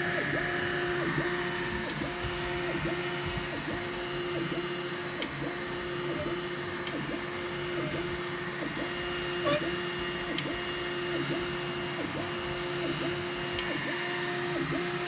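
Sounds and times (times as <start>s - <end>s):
printer motor whine: 0.0s - 15.0s.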